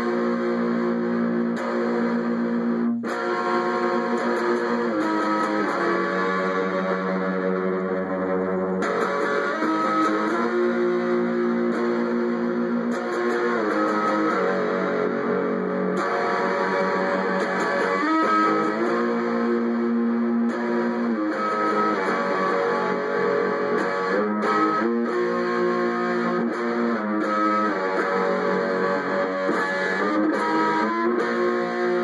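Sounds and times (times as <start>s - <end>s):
electric guitar riff: 0.0s - 32.0s.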